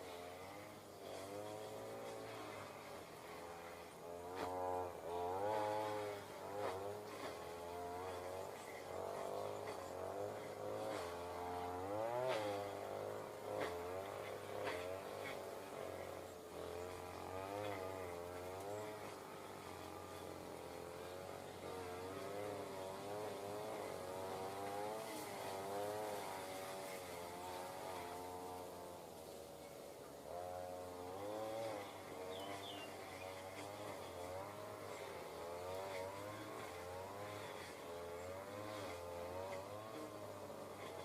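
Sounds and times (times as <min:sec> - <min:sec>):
small engine revving: 0:00.0 - 0:41.0.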